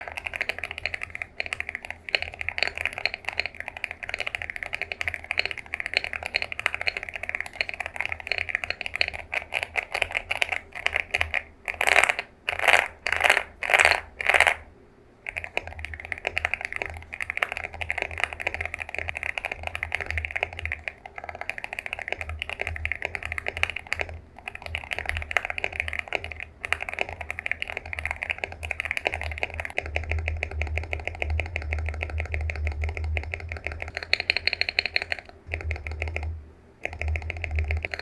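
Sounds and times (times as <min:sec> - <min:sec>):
keyboard clattering bursts: 0:00.0 - 0:14.6, 0:15.3 - 0:38.0
mechanical keyboard typing: 0:00.0 - 0:14.6, 0:15.3 - 0:38.0.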